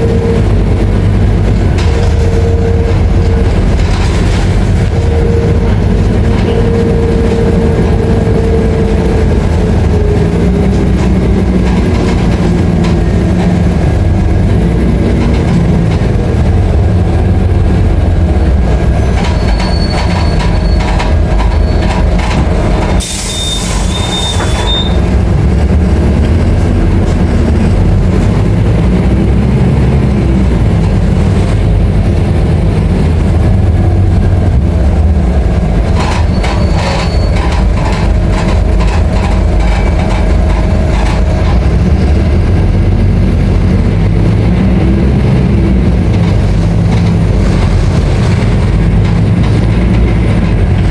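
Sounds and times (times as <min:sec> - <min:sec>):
bus body rattle and road noise: 0:00.0 - 0:50.9
bus diesel engine running: 0:00.0 - 0:50.9.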